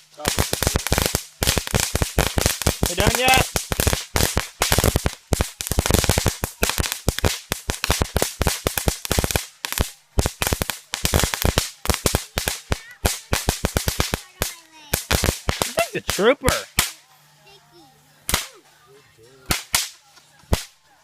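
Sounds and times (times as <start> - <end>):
firecrackers banging: 0.0 - 17.0, 18.2 - 18.8, 19.4 - 20.9.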